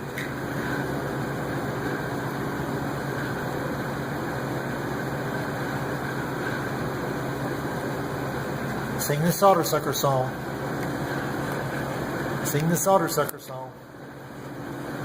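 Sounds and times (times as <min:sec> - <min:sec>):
mechanical hum and whir: 0:00.0 - 0:15.0.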